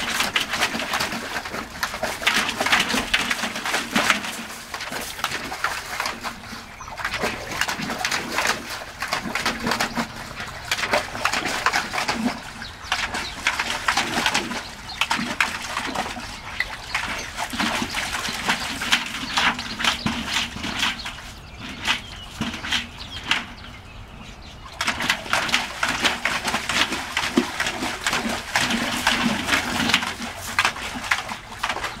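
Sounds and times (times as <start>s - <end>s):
dogs splashing water in tubs: 0.0s - 32.0s.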